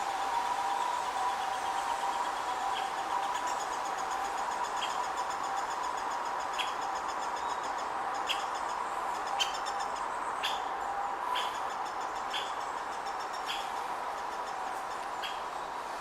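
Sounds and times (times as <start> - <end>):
woodpecker calling: 0.3 - 15.5.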